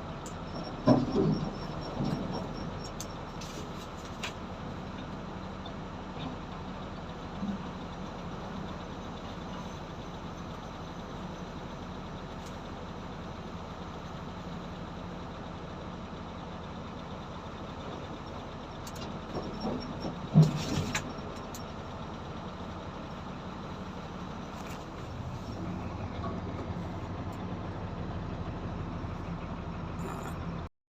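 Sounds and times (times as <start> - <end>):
excavator diesel engine running: 0.0 - 30.7.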